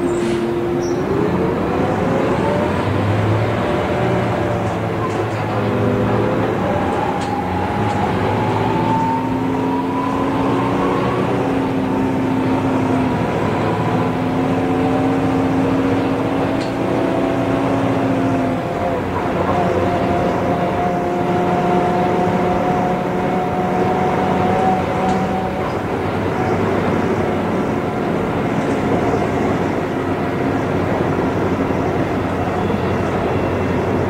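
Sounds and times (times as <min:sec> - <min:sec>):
bus diesel engine running: 0:00.0 - 0:34.0
drivetrain whine rising: 0:00.0 - 0:34.0.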